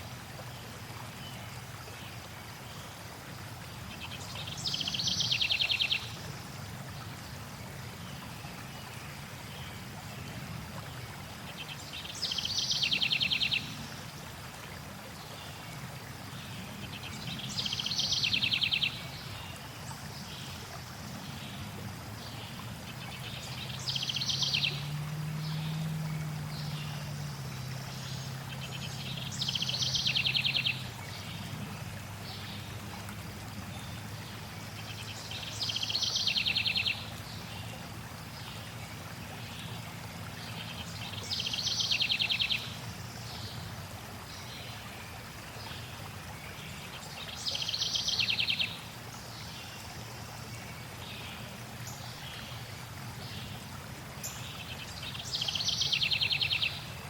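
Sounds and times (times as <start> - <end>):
flowing water: 0.0 - 57.0.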